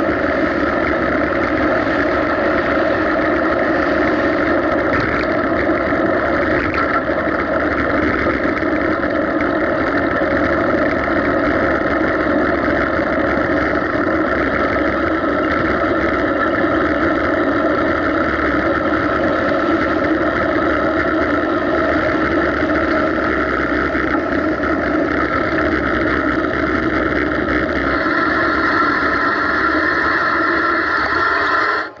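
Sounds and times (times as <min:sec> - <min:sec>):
tyres on road: 0:00.0 - 0:32.0
wind noise: 0:00.0 - 0:32.0.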